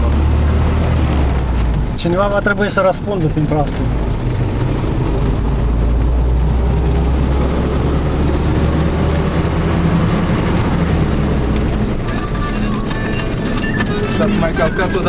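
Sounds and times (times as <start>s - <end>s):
vehicle engine and road drone: 0.0s - 15.0s.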